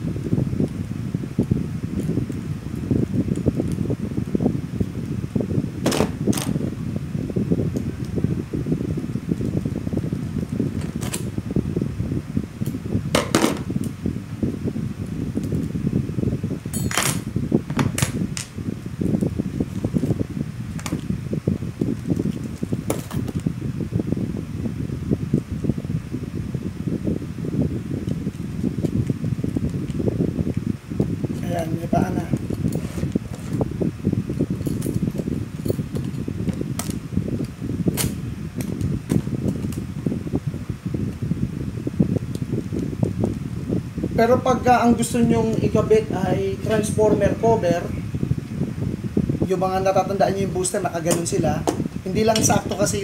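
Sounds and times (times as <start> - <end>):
low fan rumble: 0.0 - 53.0.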